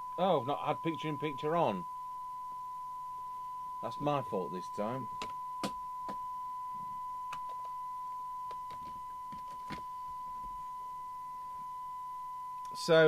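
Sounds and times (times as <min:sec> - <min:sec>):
steady test tone from radio speaker: 0:00.0 - 0:13.0.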